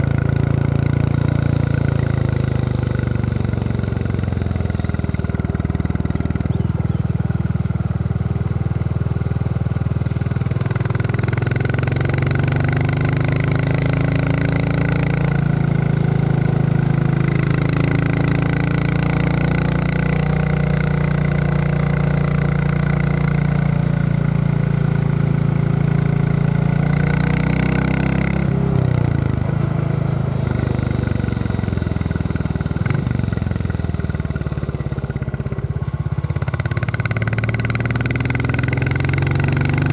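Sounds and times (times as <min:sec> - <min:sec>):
motorcycle engine thumping: 0:00.0 - 0:24.6, 0:26.4 - 0:39.9.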